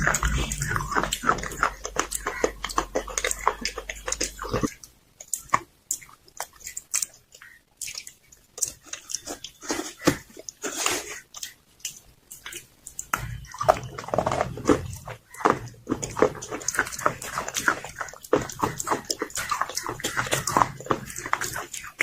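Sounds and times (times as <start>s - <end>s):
pencil being chewed crunching: 0.0s - 22.0s.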